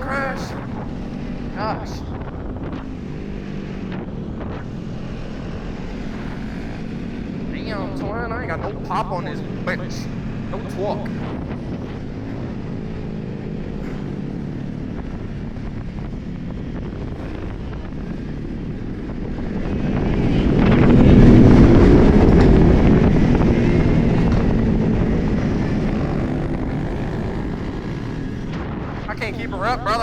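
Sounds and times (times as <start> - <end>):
road and wind noise: 0.0 - 30.0
vehicle engine running: 0.0 - 30.0
vehicle passing by: 0.0 - 30.0.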